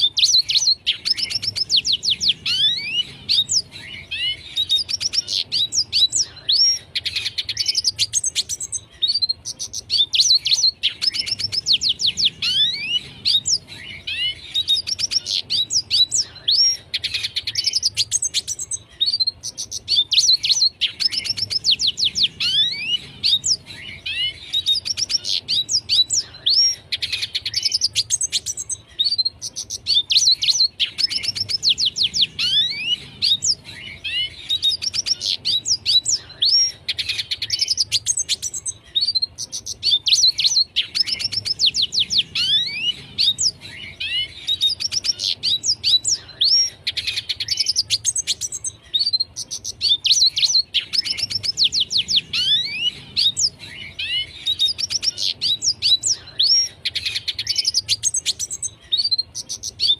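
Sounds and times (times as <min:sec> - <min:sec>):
bird twittering song: 0:00.0 - 0:59.9.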